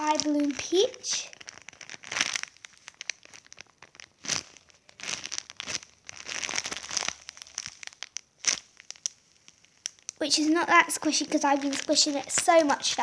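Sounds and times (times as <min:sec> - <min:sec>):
squishy toy crinkling and crackling: 0:00.0 - 0:13.0.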